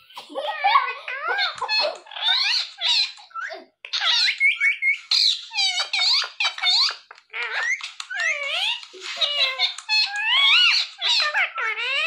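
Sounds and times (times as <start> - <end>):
parakeets chattering: 0.6 - 12.0.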